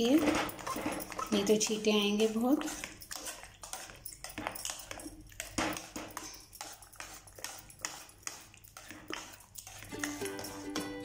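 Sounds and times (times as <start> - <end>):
masher pressing wet vegetables: 0.0 - 11.0.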